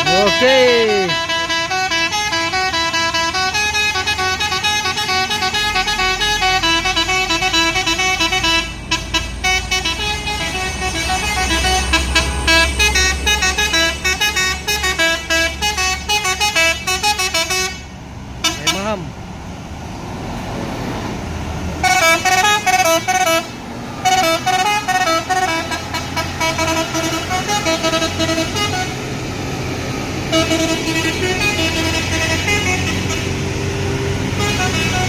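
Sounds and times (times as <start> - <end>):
musical vehicle horn melody: 0.0 - 19.0, 21.8 - 29.2, 30.2 - 35.0
heavy vehicle engine rumble: 0.0 - 35.0.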